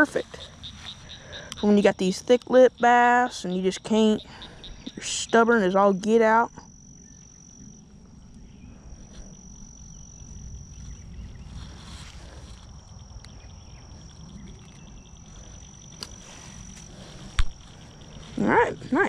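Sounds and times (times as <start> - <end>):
insect high-pitched drone: 0.0 - 19.0.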